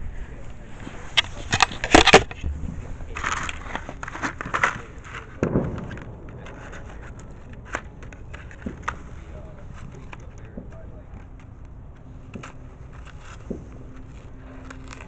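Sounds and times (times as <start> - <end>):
camera scraping on rough surface: 0.5 - 15.0
hands handling small things: 0.8 - 15.0.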